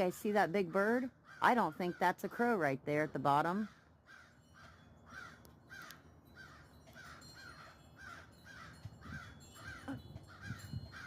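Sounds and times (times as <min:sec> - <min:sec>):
crows cawing: 0:00.7 - 0:02.6, 0:03.6 - 0:11.0.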